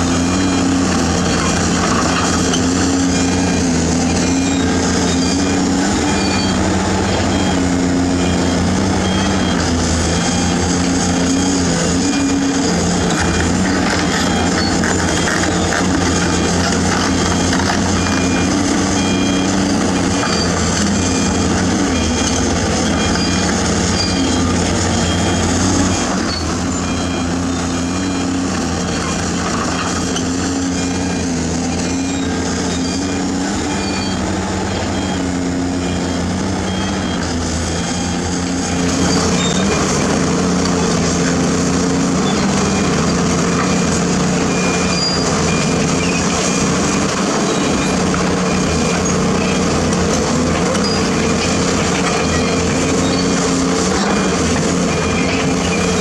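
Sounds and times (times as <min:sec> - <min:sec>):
excavator diesel engine under load: 0:00.0 - 0:56.0
backup alarm beeping: 0:00.1 - 0:56.0.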